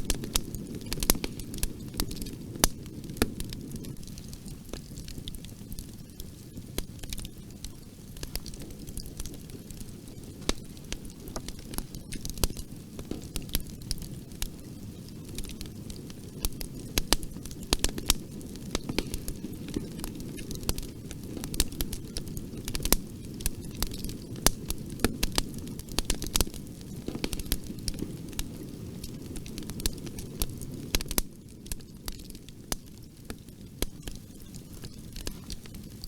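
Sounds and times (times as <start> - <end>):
burning wood crackling: 0.0 - 36.0
flames rumbling: 0.0 - 36.0.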